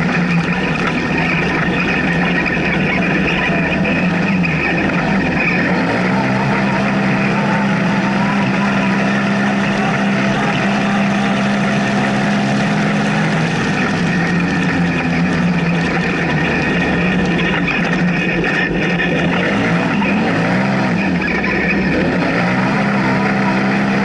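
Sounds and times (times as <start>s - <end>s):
engine running hard: 0.0s - 24.0s.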